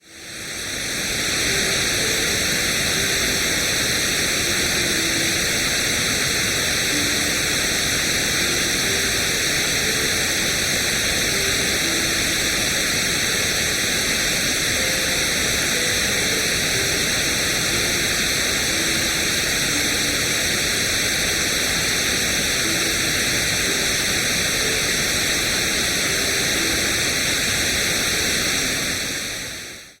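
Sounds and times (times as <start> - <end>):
electronic white noise hiss: 0.0 - 30.0.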